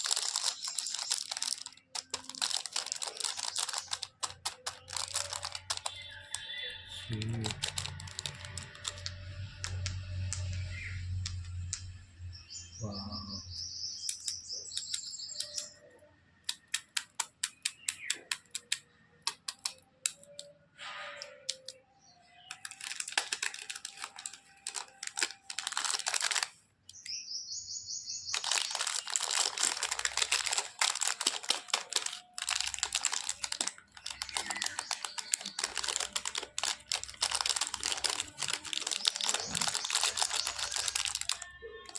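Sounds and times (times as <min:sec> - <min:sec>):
plastic wrapper crinkling: 0:00.0 - 0:11.8, 0:14.1 - 0:15.7, 0:16.5 - 0:20.5, 0:21.2 - 0:27.1, 0:28.3 - 0:41.9
packaging clicks and taps: 0:00.0 - 0:11.9, 0:14.1 - 0:15.8, 0:16.4 - 0:20.5, 0:21.1 - 0:21.8, 0:22.4 - 0:27.1, 0:28.3 - 0:41.9.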